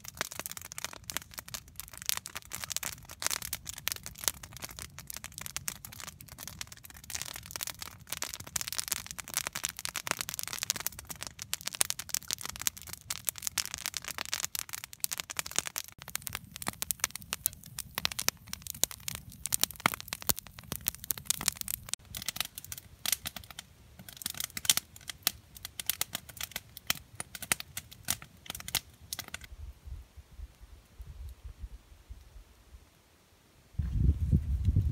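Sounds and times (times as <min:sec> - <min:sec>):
campfire crackling and popping: 0:00.0 - 0:29.5.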